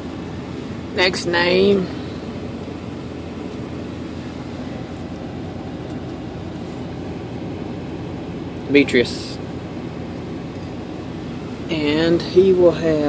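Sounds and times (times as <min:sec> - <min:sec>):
vehicle rumble inside cabin: 0:00.0 - 0:13.0.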